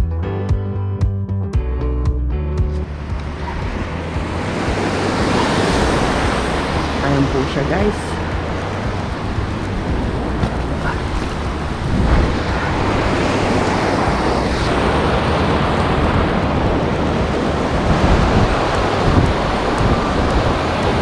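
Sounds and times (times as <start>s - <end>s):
wind buffeting microphone: 2.8s - 21.0s.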